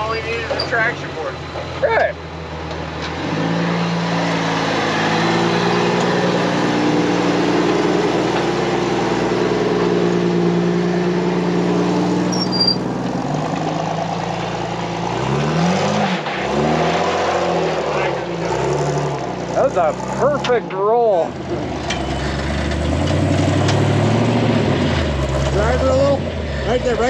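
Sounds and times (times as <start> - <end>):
buggy engine revving under load: 0.0 - 27.0.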